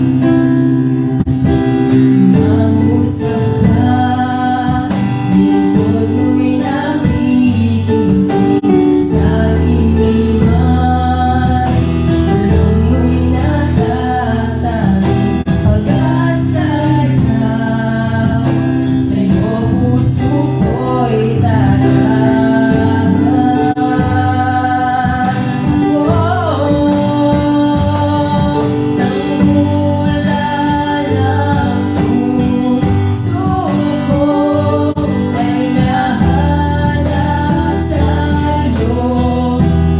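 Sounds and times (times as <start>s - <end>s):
bass: 0.0s - 39.9s
guitar: 0.0s - 39.9s
person singing slow melody: 0.0s - 39.9s.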